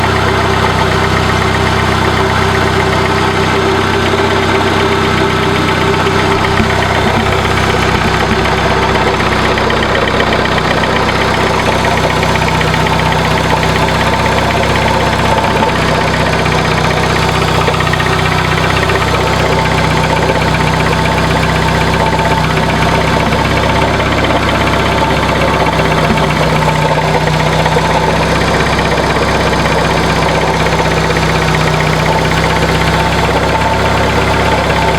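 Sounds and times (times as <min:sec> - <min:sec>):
alternator grinding and scraping: 0:00.0 - 0:34.9
car engine idling: 0:00.0 - 0:34.9.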